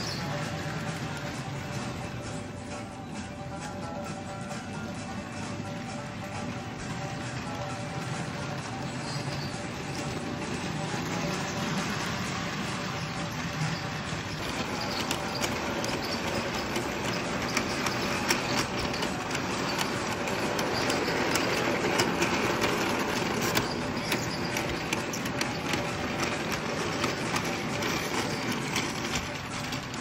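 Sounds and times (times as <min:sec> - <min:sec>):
toy train whirring: 0:00.0 - 0:30.0
wheels clicking on track: 0:00.0 - 0:30.0.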